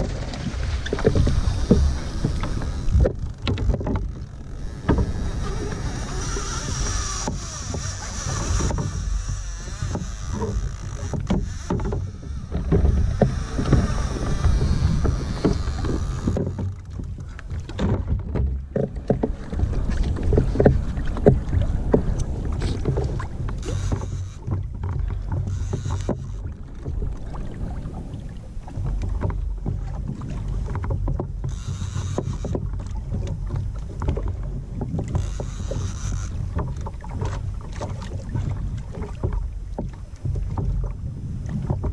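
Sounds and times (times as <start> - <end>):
water splashing against hull: 0.0 - 41.9
wind rumbling on microphone: 0.0 - 41.9.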